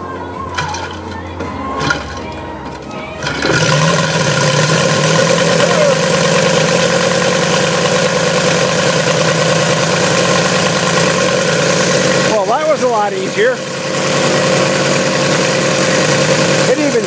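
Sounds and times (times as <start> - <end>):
model aircraft engine running: 3.2 - 17.0.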